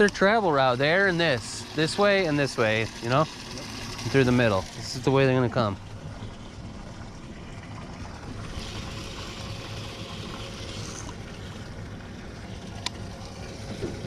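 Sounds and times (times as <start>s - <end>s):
low hum: 0.0s - 14.0s
water noise: 0.0s - 14.0s
wind: 0.0s - 14.0s.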